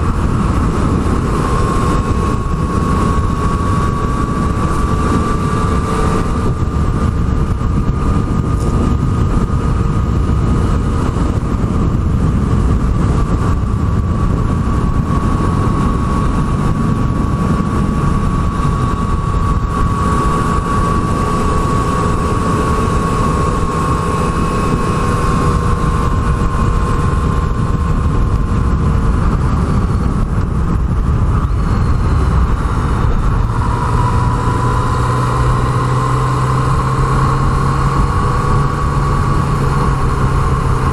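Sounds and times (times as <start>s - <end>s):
motorcycle engine cruising: 0.0s - 40.9s
rush of riding wind: 0.0s - 40.9s.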